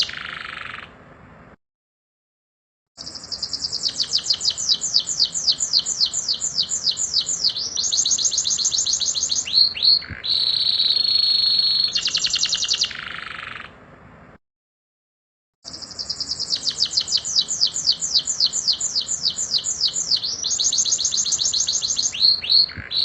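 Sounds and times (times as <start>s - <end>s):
canary singing: 0.0s - 1.0s, 3.0s - 13.8s, 15.7s - 23.0s.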